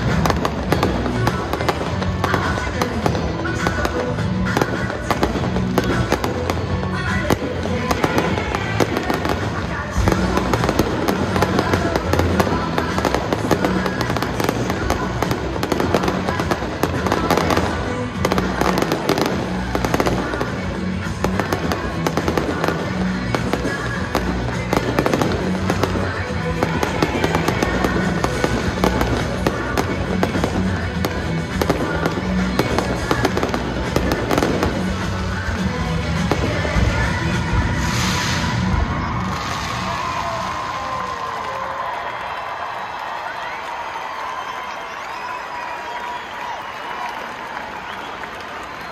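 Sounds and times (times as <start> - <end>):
fireworks bursting: 0.0 - 40.6
music playing: 0.0 - 48.9.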